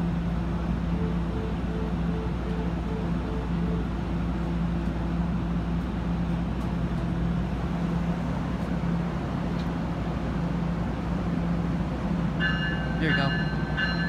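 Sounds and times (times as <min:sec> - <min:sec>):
train rumbling past platform: 0:00.0 - 0:14.0.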